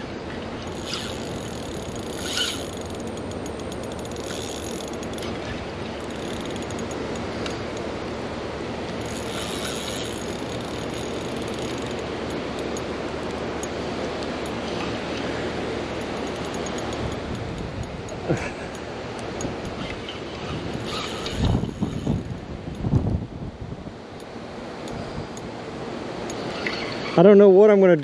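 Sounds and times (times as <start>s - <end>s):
fishing reel whirring and clicking: 0.3s - 8.0s, 8.8s - 22.9s, 26.2s - 27.3s.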